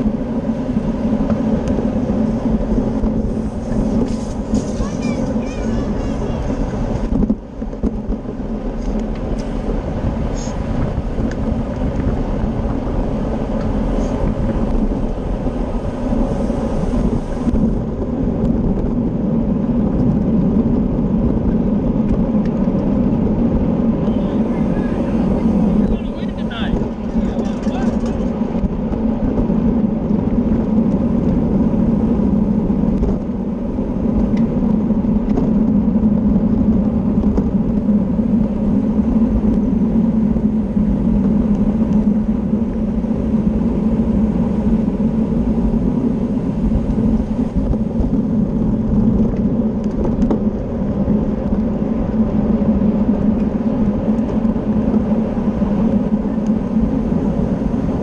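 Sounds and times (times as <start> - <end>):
wind roaring over microphone: 0.0 - 58.0.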